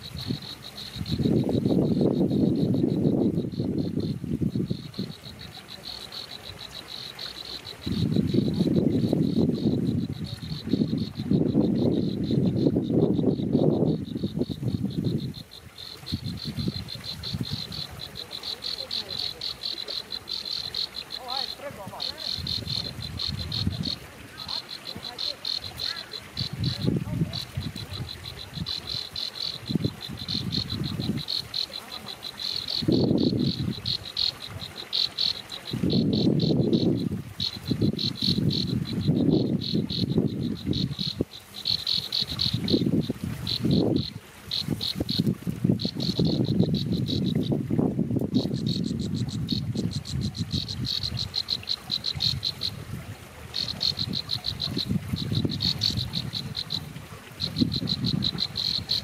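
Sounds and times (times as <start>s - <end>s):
insect chirping: 0.0s - 59.0s.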